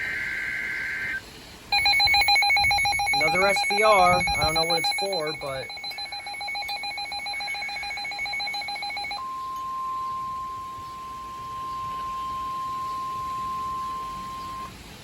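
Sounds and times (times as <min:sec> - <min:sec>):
rapidly pulsing alarm beep: 0:00.0 - 0:14.7
steady warning alarm tone: 0:00.0 - 0:14.7.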